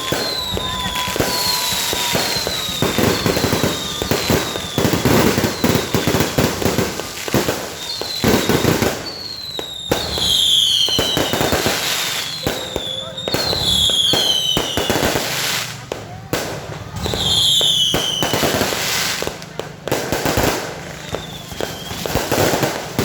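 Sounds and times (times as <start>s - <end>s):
falling firework whistle: 0.0s - 16.2s, 16.9s - 19.4s, 20.4s - 23.0s
fireworks crackling and banging: 0.0s - 23.0s.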